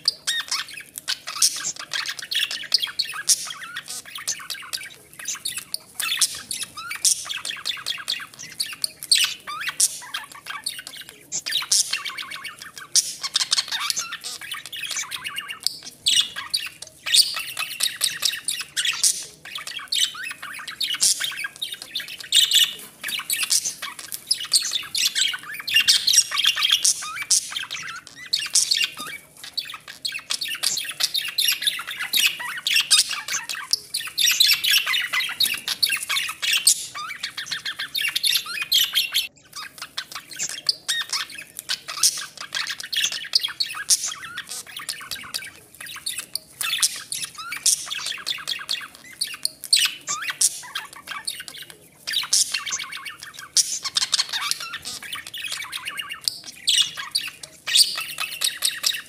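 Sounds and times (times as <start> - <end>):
budgerigars chattering: 0.0 - 59.0.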